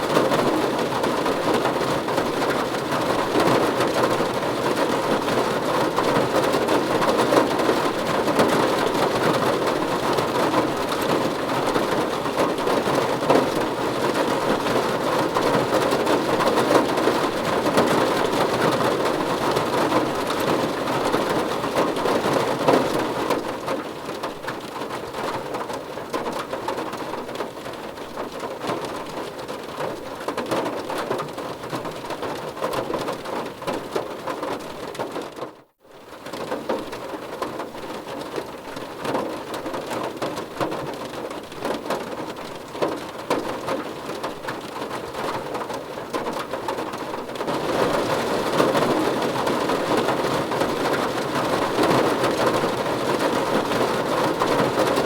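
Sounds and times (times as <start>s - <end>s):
heavy rain on a car roof: 0.0s - 55.0s.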